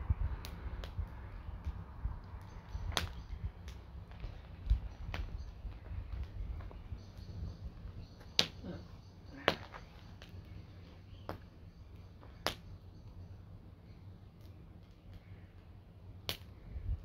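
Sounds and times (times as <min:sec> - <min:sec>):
campfire crackling: 0:00.0 - 0:17.0
low steady rumble: 0:00.0 - 0:17.0.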